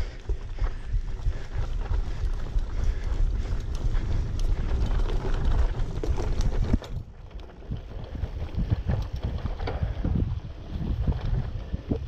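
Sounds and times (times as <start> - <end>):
bicycle rattling on dirt trail: 0.0 - 12.0
wind buffeting microphone: 0.0 - 12.0.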